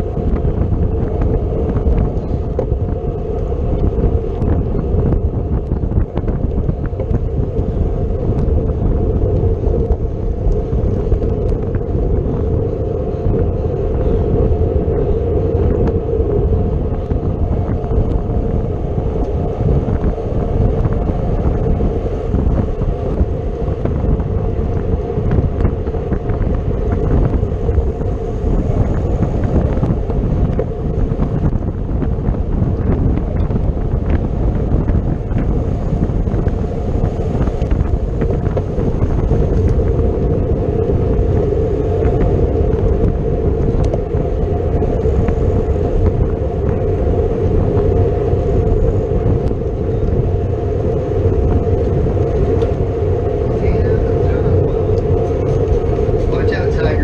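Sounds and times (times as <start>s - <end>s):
constant hum: 0.0s - 57.0s
wind rushing over microphone: 0.0s - 57.0s.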